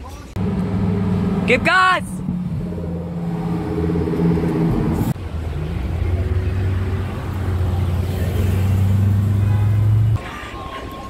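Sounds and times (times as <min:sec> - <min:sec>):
sports car engine rumbling: 0:00.4 - 0:10.2
sports car pulling away: 0:00.4 - 0:10.2.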